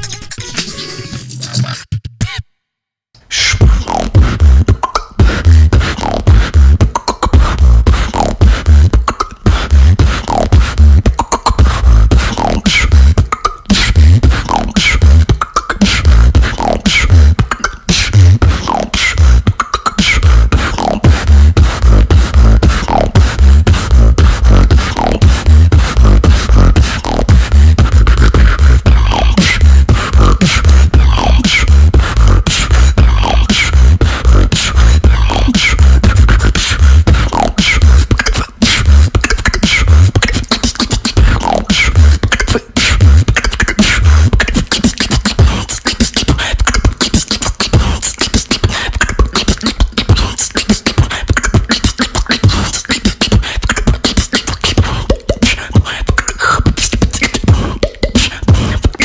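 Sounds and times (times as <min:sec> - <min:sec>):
vocal beatboxing: 0:00.0 - 0:02.4, 0:03.2 - 0:59.0
sliding vocal tones: 0:03.2 - 0:59.0.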